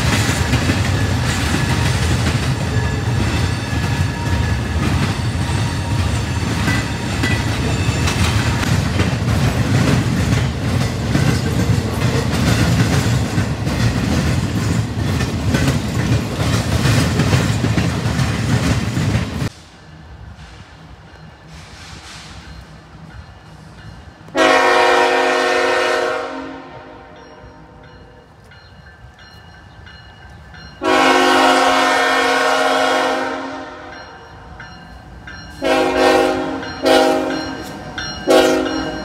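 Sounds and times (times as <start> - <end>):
freight train wheels clattering: 0.0 - 26.0, 27.4 - 39.0.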